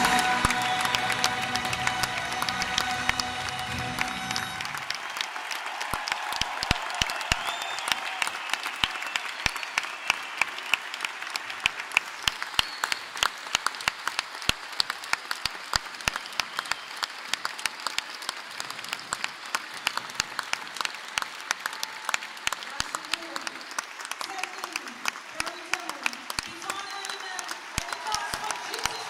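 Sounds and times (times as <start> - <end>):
audience applauding: 0.0 - 29.0
close single person clapping: 0.0 - 29.0.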